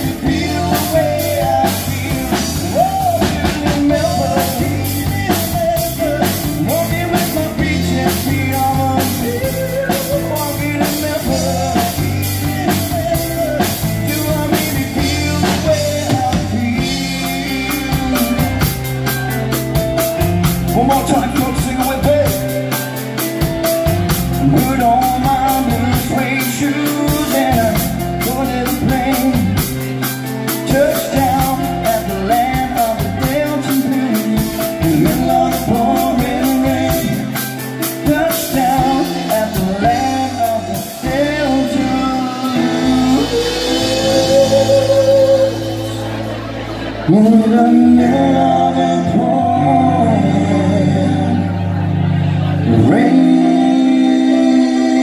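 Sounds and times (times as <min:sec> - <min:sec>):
person singing melody: 0:00.0 - 0:55.0
pop-rock band playing: 0:00.0 - 0:55.0.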